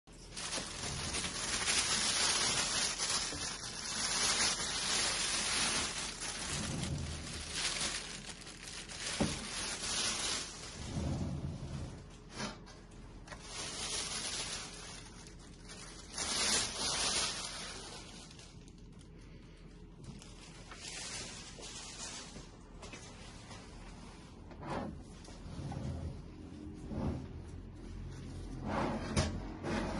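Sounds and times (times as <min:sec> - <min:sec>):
plastic wrapping crinkling: 0:00.0 - 0:24.1.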